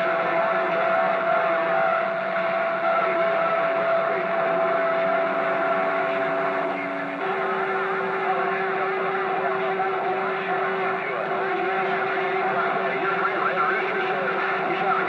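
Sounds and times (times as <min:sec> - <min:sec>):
radio static hissing: 0:00.0 - 0:15.0.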